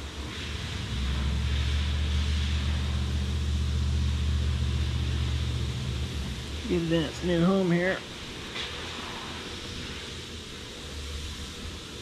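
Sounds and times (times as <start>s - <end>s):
low machine drone: 0.0s - 12.0s.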